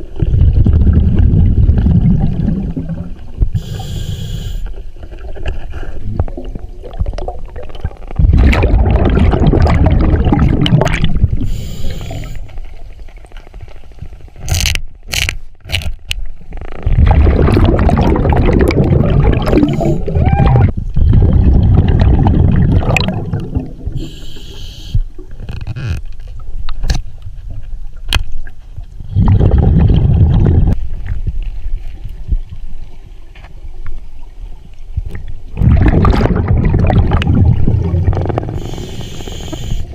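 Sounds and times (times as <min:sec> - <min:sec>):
underwater bubbling: 0:00.0 - 0:14.7, 0:16.2 - 0:39.9.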